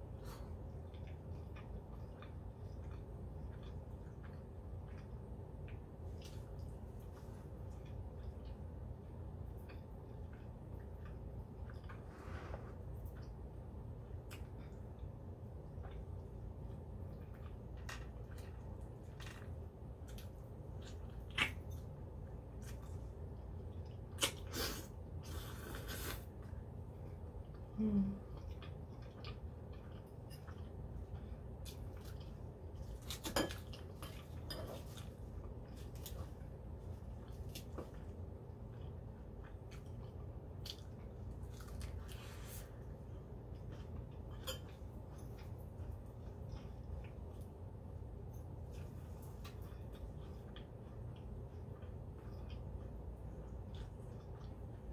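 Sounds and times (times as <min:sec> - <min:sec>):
low steady hum: 0:00.0 - 0:54.9
crunchy chewing: 0:00.2 - 0:27.6, 0:28.3 - 0:54.9.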